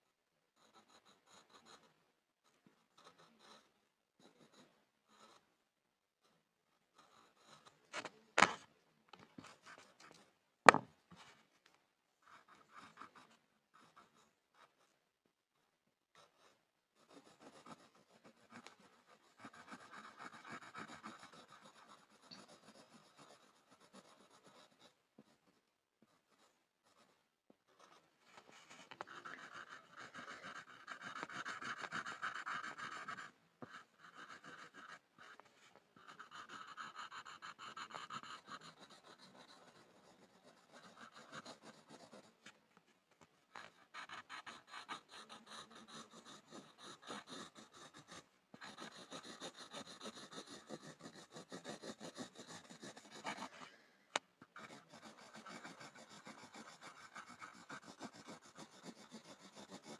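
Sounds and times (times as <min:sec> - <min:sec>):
pencil scribbling on a board: 0:00.6 - 0:05.5, 0:06.2 - 0:08.7, 0:09.4 - 0:11.4, 0:12.2 - 0:15.0, 0:16.1 - 0:42.6, 0:43.5 - 0:53.7, 0:54.4 - 0:59.9.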